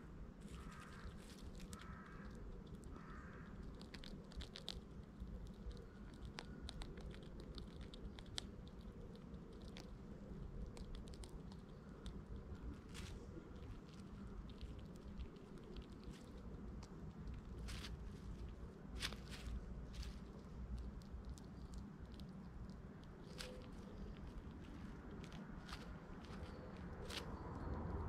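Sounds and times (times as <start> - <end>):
low background rumble: 0.0 - 28.0
squirrel gnawing food: 0.3 - 28.0.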